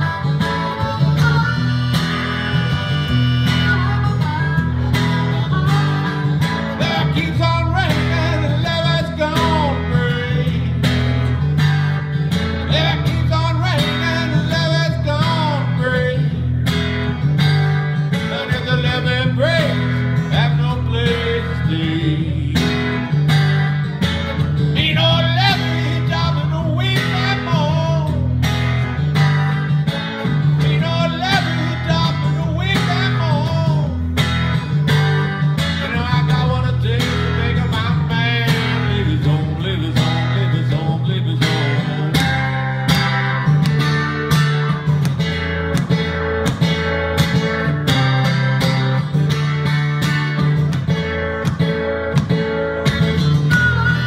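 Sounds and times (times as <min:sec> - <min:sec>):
harmonica wailing: 0:00.0 - 0:50.2, 0:51.0 - 0:54.0
acoustic guitar strumming: 0:00.0 - 0:54.0.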